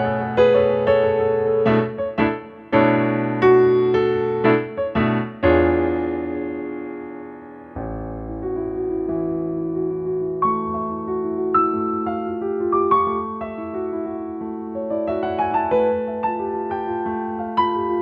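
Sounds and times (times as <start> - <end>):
solo piano chords: 0.0 - 18.0.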